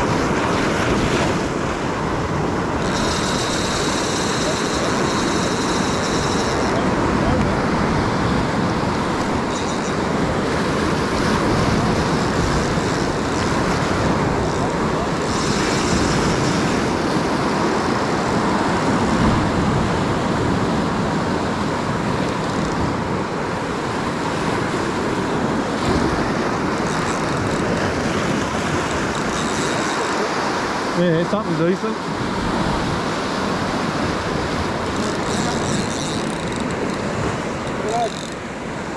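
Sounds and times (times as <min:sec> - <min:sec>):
ocean surf breaking on rocks: 0:00.0 - 0:38.9.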